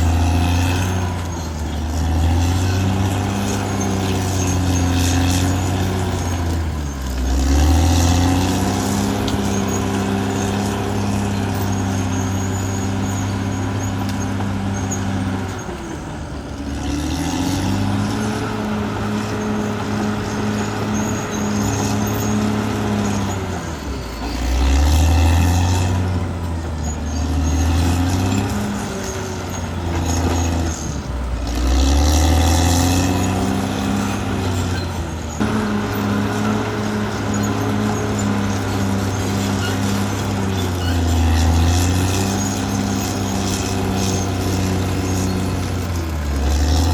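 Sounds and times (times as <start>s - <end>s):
bulldozer diesel engine lugging: 0.0s - 46.9s.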